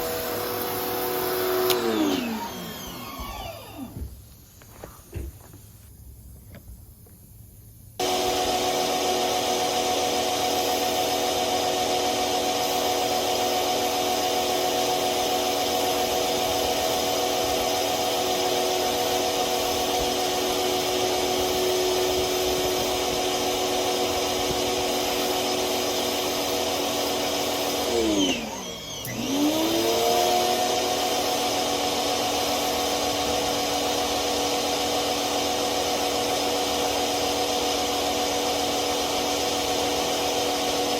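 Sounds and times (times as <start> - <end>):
pressure washer running: 0.0 - 4.0, 8.0 - 40.9.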